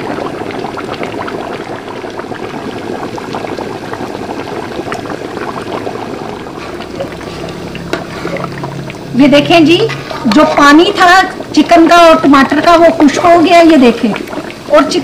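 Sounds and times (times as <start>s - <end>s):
pot boiling and bubbling: 0.0s - 15.0s.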